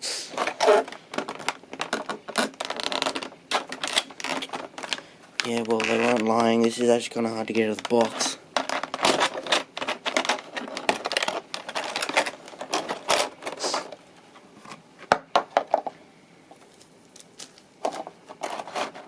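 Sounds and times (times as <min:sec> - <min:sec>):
packaging rustling and clicking: 0:00.3 - 0:14.0, 0:16.6 - 0:19.0.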